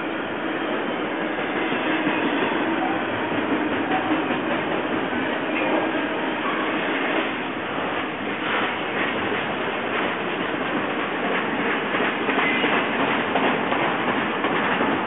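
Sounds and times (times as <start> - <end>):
steel wheels on rail: 0.0 - 15.0.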